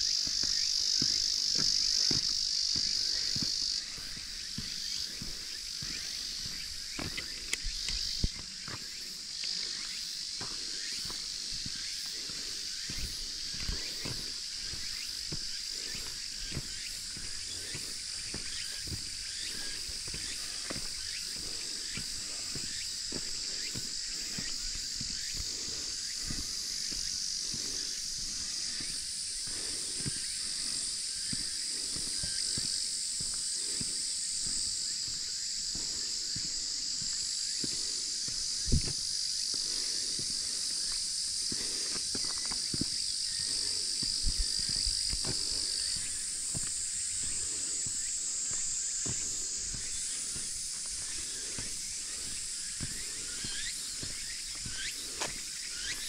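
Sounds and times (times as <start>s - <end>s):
footsteps on road: 0.0s - 56.0s
insect chorus: 0.0s - 56.0s.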